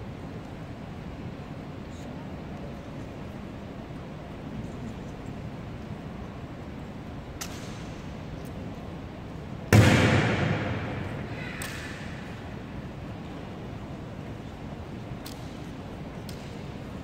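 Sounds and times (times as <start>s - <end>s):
low murmur of onlookers: 0.0s - 17.0s.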